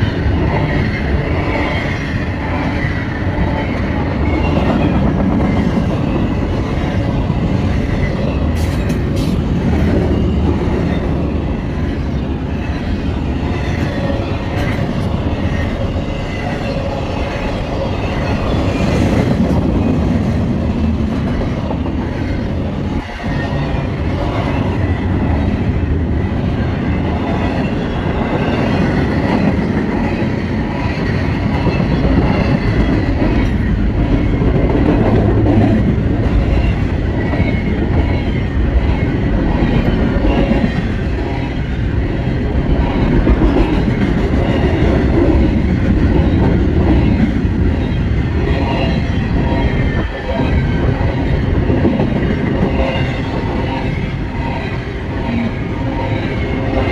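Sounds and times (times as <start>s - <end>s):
clickety-clack over rail joints: 0.0s - 56.9s
train wheels rumbling on rails: 0.0s - 56.9s.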